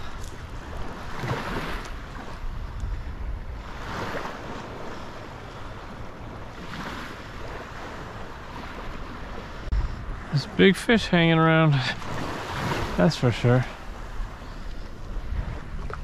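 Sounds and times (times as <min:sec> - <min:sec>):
wind rumbling on microphone: 0:00.0 - 0:11.4, 0:12.0 - 0:16.0
surf washing on beach: 0:00.0 - 0:16.0.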